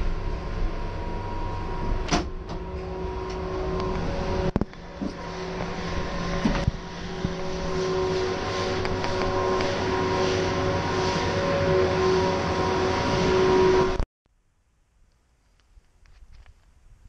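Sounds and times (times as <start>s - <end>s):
machinery hum and whine: 0.0s - 17.0s.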